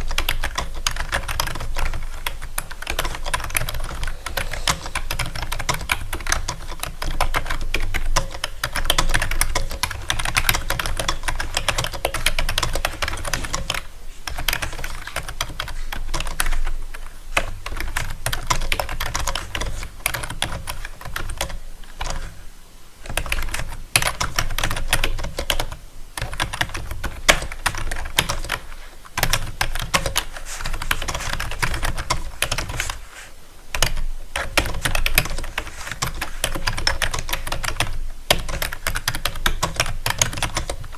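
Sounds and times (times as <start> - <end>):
fast typing on keyboard: 0.0 - 22.3, 23.1 - 33.0, 33.7 - 40.9.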